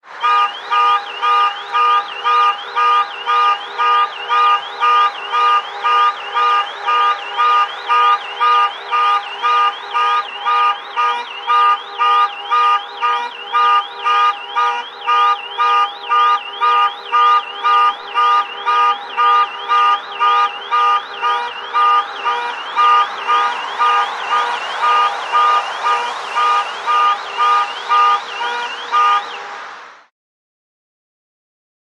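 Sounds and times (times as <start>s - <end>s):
car alarm pulsing tone: 0.1s - 29.8s.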